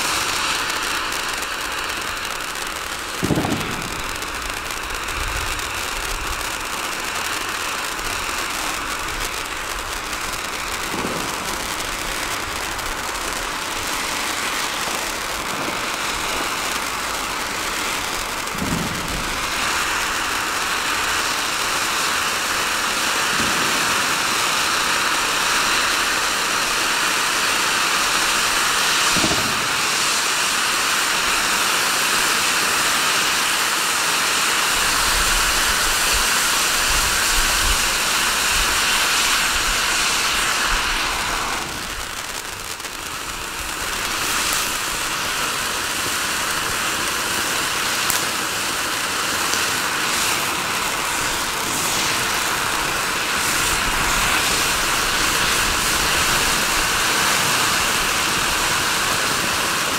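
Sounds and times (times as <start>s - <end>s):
fireworks fountain hissing sparks: 0.0s - 59.9s
sharp firework crackles: 0.0s - 59.9s.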